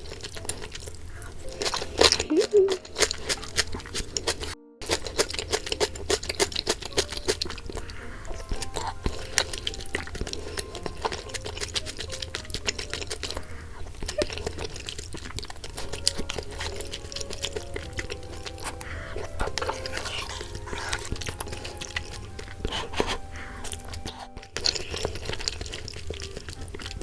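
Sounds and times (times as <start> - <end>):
person chewing and crunching: 0.0 - 27.0
soft background music: 0.0 - 27.0.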